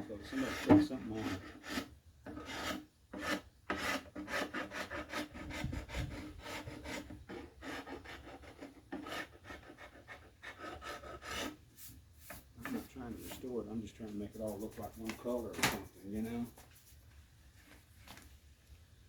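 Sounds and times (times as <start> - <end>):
chisel scraping wood: 0.0 - 11.6, 12.2 - 16.8.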